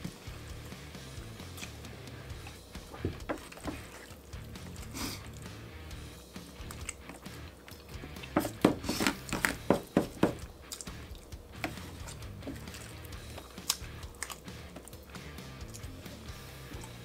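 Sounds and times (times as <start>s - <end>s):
wet chewing and smacking: 0.5s - 9.7s, 10.4s - 17.0s.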